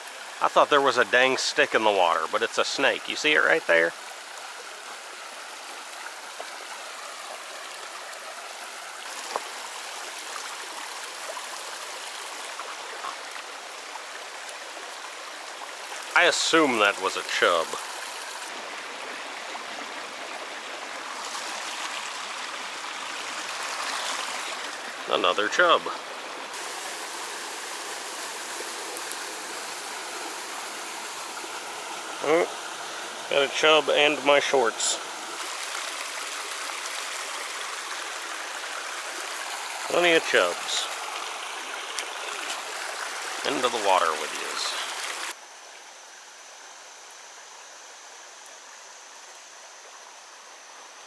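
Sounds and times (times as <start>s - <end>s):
creek flowing over stones: 0.0s - 51.0s.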